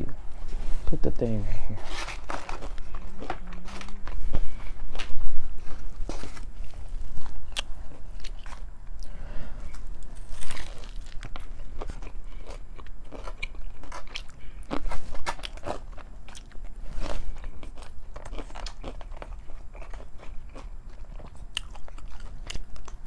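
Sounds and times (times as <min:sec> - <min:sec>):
crunchy chewing: 0:01.8 - 0:23.0.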